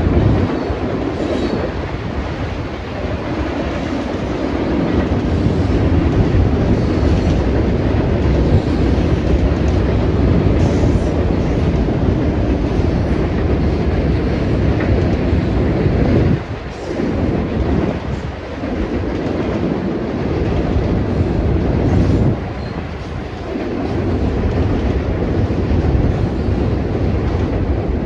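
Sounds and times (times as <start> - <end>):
freight train wheels rumbling on rails: 0.0 - 28.0.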